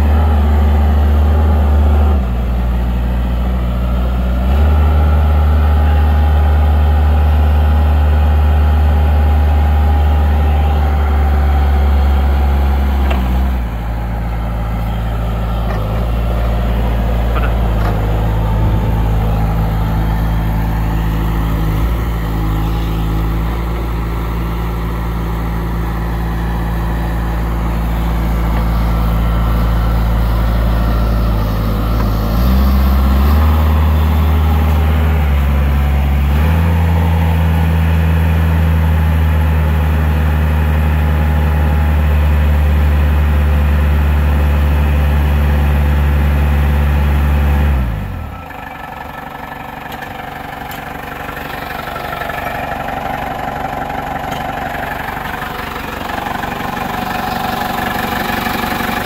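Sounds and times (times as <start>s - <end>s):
forklift diesel engine running: 0.0s - 59.0s.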